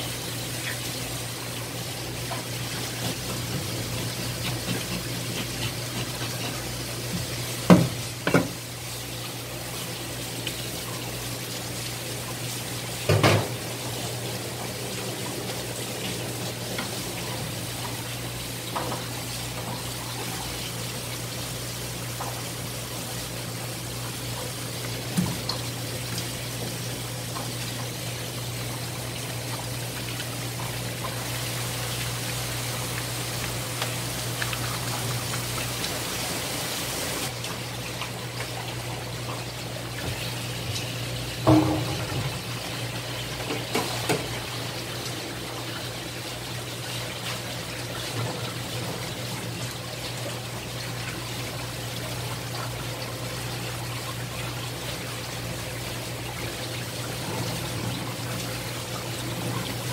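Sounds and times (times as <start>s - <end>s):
tap water running onto fish: 0.0s - 59.9s.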